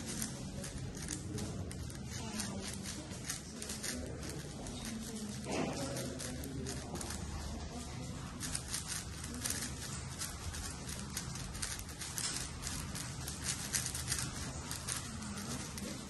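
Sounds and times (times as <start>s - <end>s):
puzzle cube clicking: 0.0s - 16.0s.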